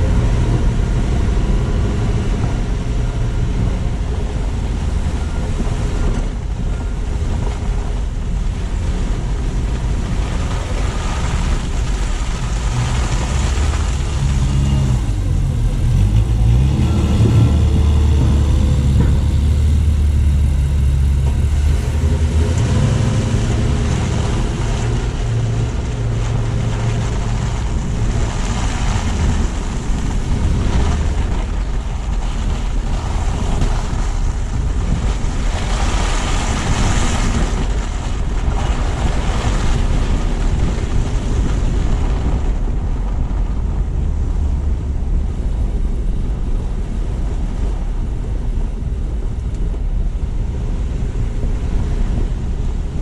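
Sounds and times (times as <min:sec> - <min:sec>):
deep rumble: 0:00.0 - 0:53.0
tyre and road noise: 0:00.0 - 0:53.0
wind buffeting microphone: 0:00.0 - 0:53.0.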